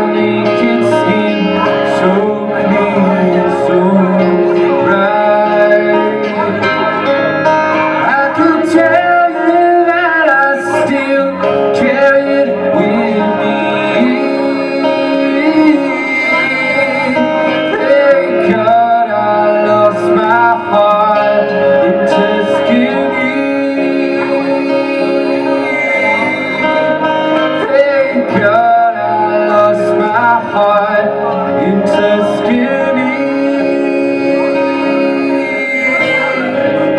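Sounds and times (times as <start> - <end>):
guitar: 0.0 - 36.9
person singing: 0.0 - 36.9.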